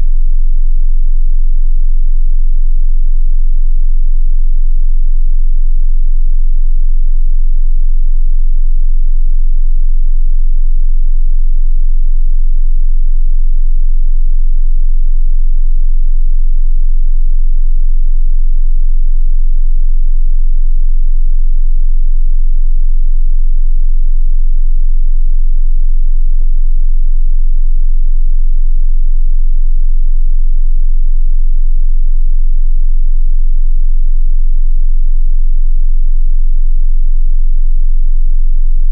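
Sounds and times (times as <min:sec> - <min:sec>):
deep bass sine tone: 0:00.0 - 0:38.9.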